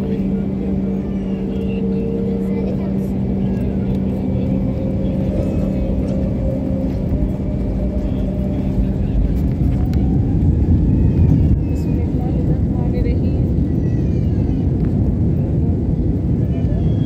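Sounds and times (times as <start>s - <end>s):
jet engine hum: 0.0s - 17.0s
plane rumbling on runway: 0.0s - 17.0s.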